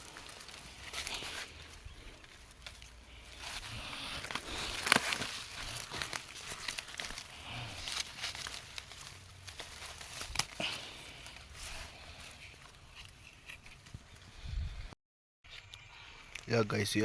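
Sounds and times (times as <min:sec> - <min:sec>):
leafy plants rustling and tearing: 0:00.0 - 0:14.3.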